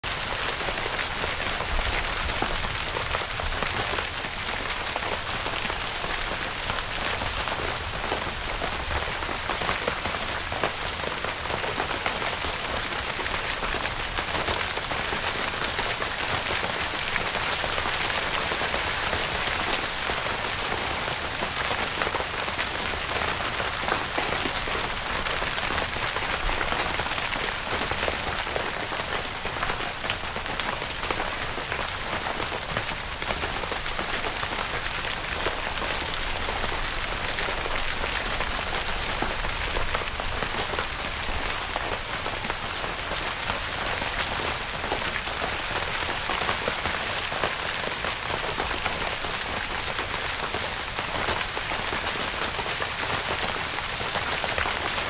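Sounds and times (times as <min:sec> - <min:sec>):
rain falling on a tent: 0:00.0 - 0:55.0.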